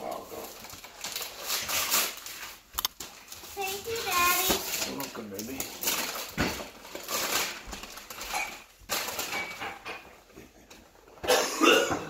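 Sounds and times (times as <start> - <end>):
wrapping paper rustling and tearing: 0.0 - 9.7.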